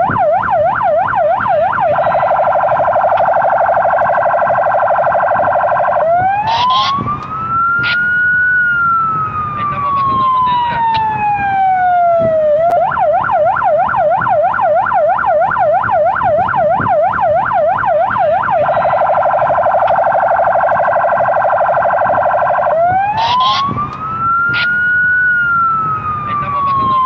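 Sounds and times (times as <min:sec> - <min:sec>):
police car electronic siren: 0:00.0 - 0:27.0.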